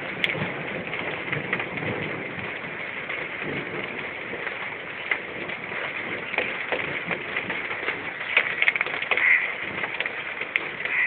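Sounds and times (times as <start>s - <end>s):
heavy rain: 0.0s - 11.0s
drops ticking on hard surface: 0.1s - 11.0s.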